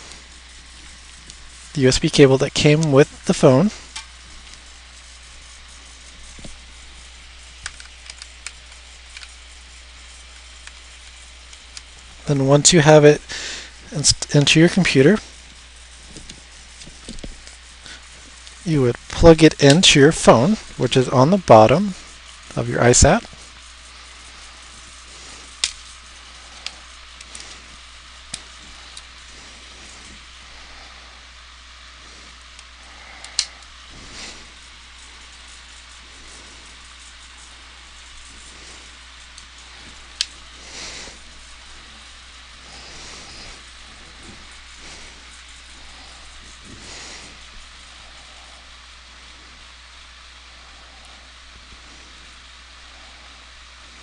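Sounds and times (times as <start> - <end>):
low hum and hiss: 0.0 - 54.0.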